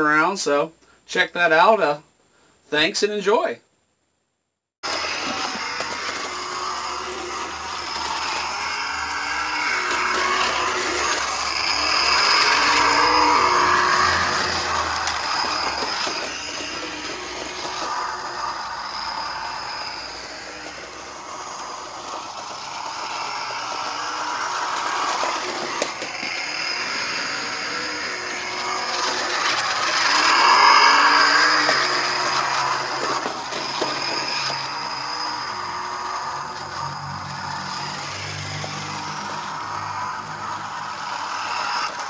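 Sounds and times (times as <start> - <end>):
rc truck motor running: 4.8 - 42.0.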